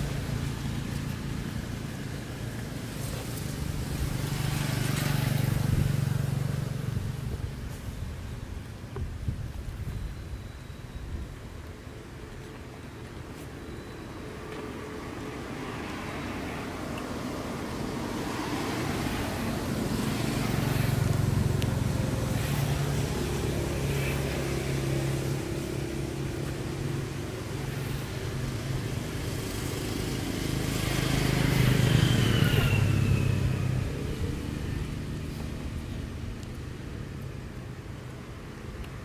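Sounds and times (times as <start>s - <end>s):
vehicles passing: 0.0s - 39.0s.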